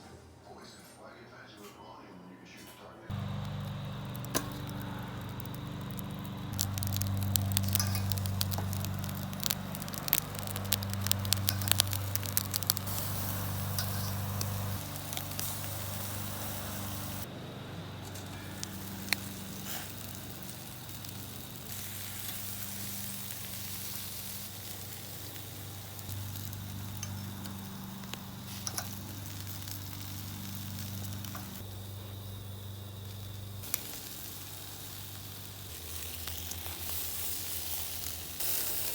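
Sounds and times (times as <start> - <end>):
low steady hum: 3.1 - 38.5
fat crackling and popping: 3.1 - 38.9
meat sizzling on charcoal grill: 3.1 - 38.9.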